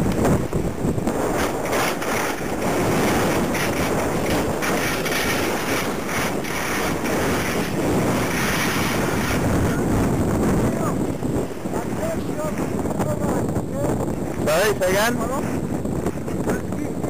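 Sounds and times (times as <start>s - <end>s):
skiing over snow: 0.0s - 17.0s
wind buffeting microphone: 0.0s - 17.0s.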